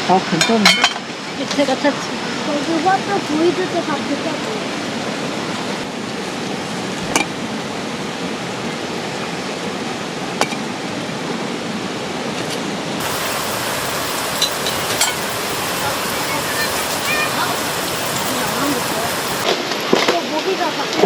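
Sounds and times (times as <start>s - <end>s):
stream rushing: 1.0s - 21.0s.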